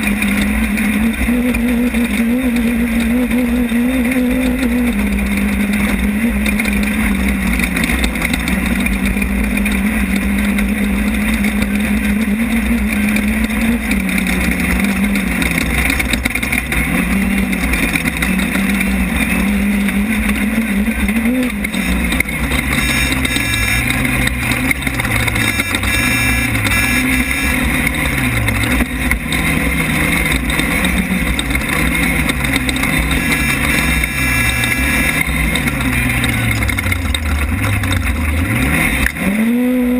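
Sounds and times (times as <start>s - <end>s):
low rumble of car: 0.0s - 39.9s
race car engine running hard: 0.0s - 39.9s.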